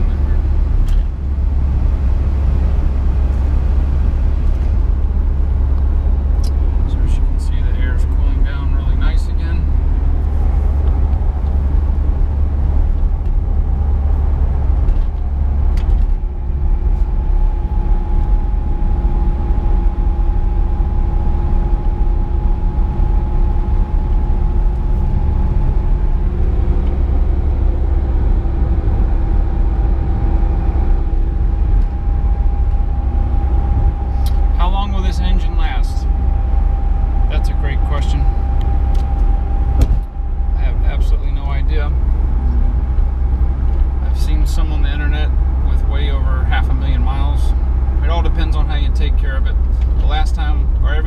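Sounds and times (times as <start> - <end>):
diesel engine rumble in cabin: 0.0 - 51.0
faint steady whine: 0.0 - 51.0
road noise: 0.0 - 51.0.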